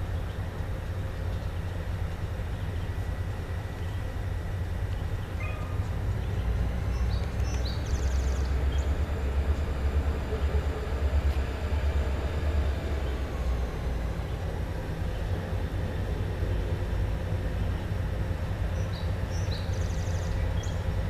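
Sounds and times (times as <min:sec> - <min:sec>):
diesel freight train rumbling: 0:00.0 - 0:21.0.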